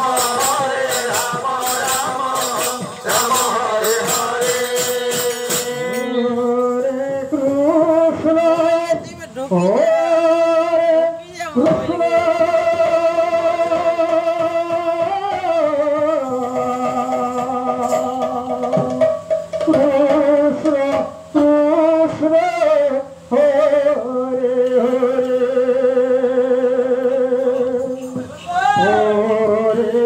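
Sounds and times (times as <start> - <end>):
person singing long held notes: 0.0 - 30.0.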